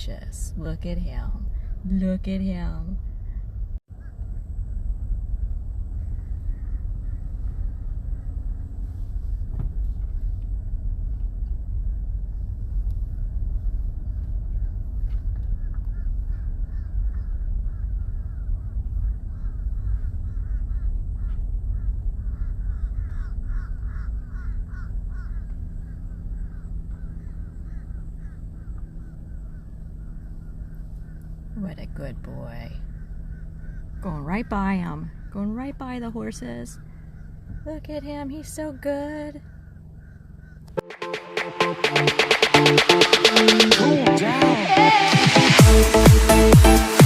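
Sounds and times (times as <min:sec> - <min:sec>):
car engine and tyres rumbling: 0:00.0 - 0:44.0
birds calling: 0:03.0 - 0:04.6, 0:05.9 - 0:10.4, 0:14.0 - 0:47.0.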